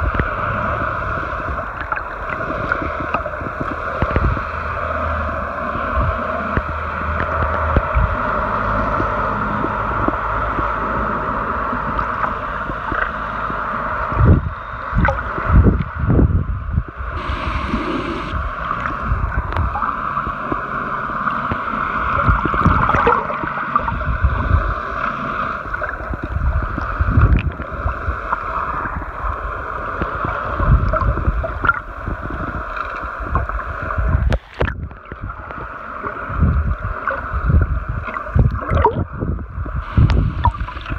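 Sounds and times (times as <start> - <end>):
low thuds and surges in water: 0.0 - 40.9
muffled underwater drone: 0.0 - 40.9
water gurgling: 0.0 - 40.9.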